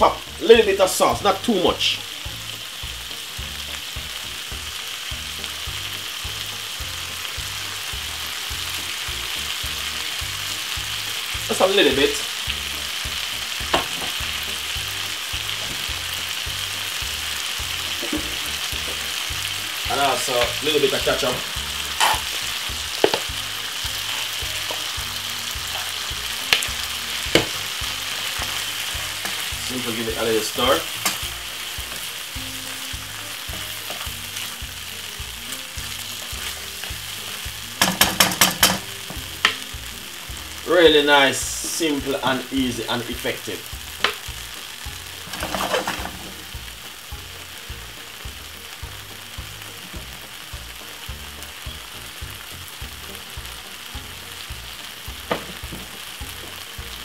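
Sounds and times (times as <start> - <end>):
background music with beat: 0.0 - 57.0
meatballs sizzling in oil: 0.0 - 57.0.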